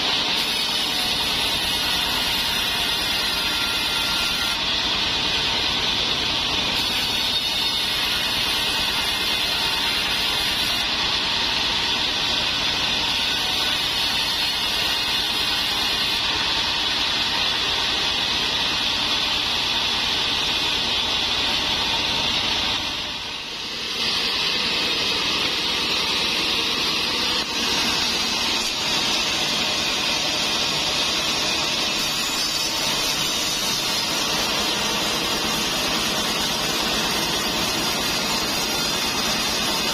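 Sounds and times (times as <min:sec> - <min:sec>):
bandsaw sawing timber: 0:00.0 - 0:39.9.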